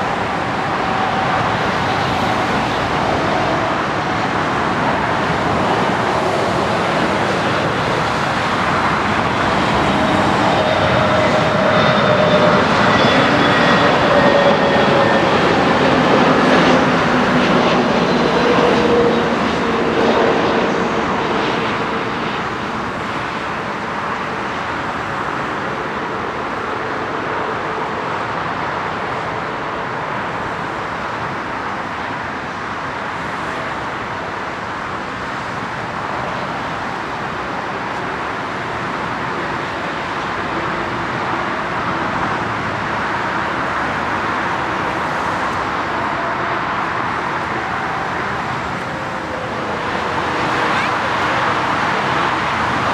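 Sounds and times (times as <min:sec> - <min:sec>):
jet engines passing close: 0:00.0 - 0:52.9.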